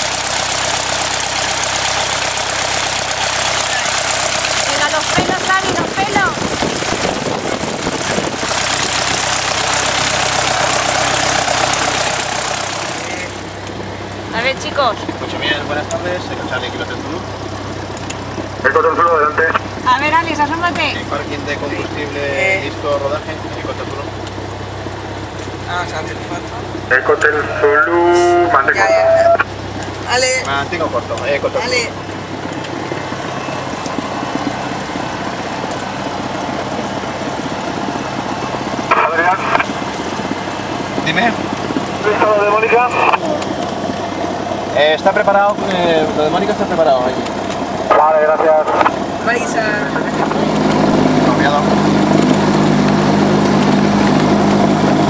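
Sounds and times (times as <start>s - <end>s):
aircraft engine idling: 0.0s - 55.0s.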